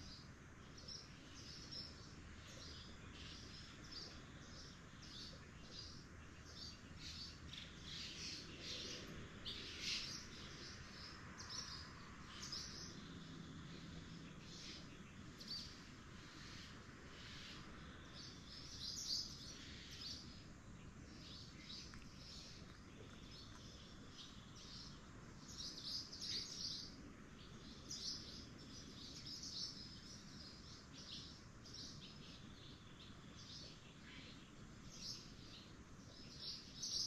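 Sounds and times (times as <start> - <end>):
faint birds chirping: 0.0 - 37.0
outdoor background hum: 0.0 - 37.0.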